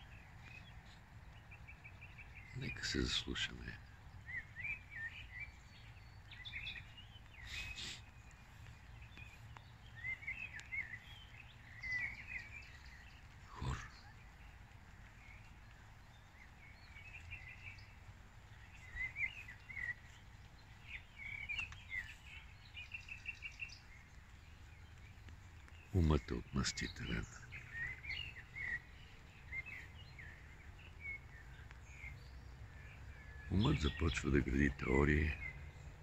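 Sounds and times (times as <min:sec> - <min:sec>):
birds chirping and trilling: 0:00.0 - 0:36.0.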